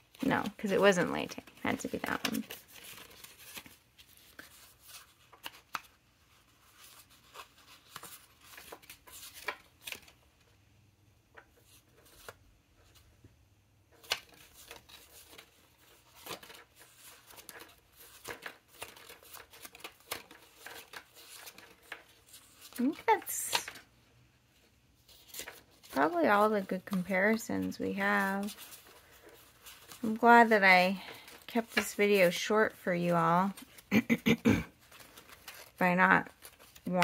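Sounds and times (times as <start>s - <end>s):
swatch cards flipped and rustling: 0.2s - 10.2s, 11.3s - 13.1s, 13.9s - 23.8s, 25.1s - 32.4s, 34.8s - 37.0s.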